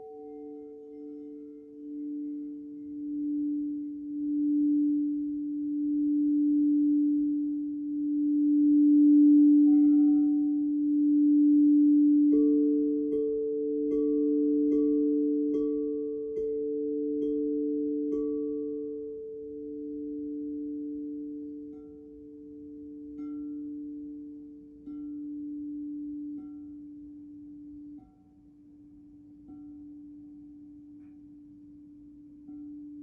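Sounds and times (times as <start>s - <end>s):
crystal singing bowls ringing: 0.0s - 33.0s.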